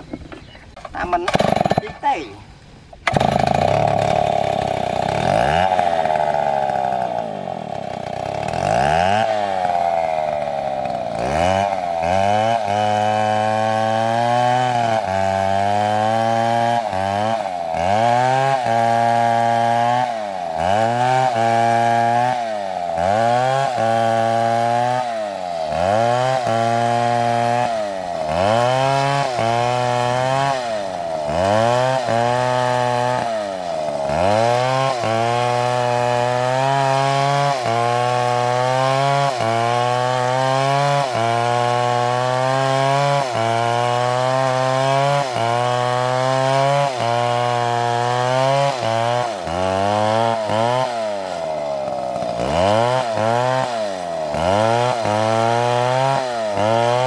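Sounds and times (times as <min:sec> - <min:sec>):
chainsaw cutting wood: 0:00.0 - 0:02.2, 0:03.0 - 0:57.0.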